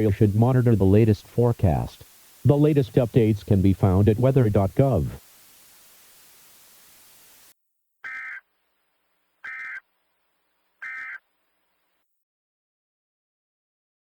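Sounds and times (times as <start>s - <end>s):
faint hiss: 0.0s - 12.1s.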